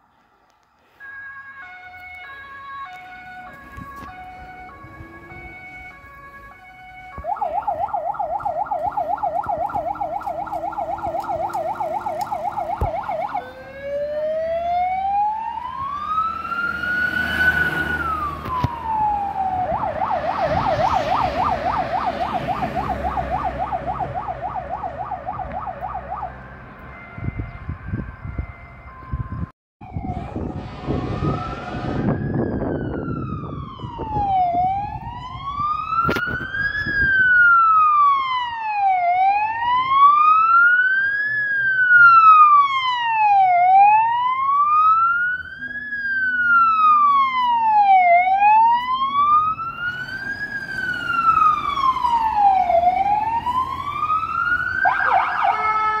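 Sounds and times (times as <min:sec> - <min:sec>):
fire engine siren wailing: 0:00.0 - 0:56.0.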